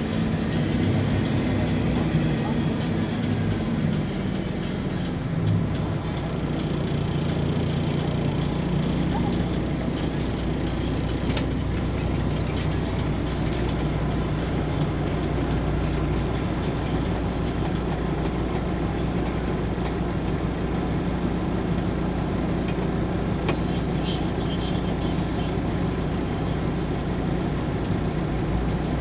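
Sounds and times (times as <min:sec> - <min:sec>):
bus diesel engine idling: 0:00.0 - 0:29.0.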